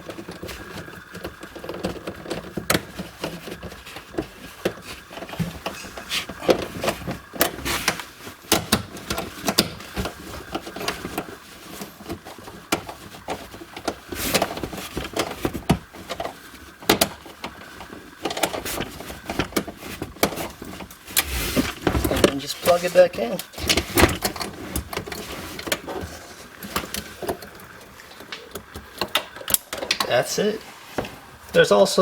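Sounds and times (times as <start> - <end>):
hands clicking plastic parts: 0.0 - 30.2.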